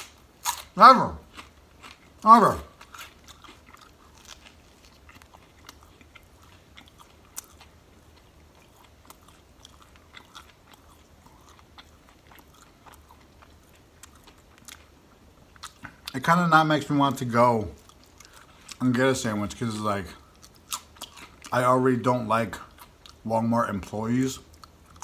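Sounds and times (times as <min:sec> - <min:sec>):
person chewing: 0:00.0 - 0:16.2, 0:17.7 - 0:18.9, 0:20.2 - 0:21.7, 0:22.6 - 0:23.2, 0:24.4 - 0:25.0.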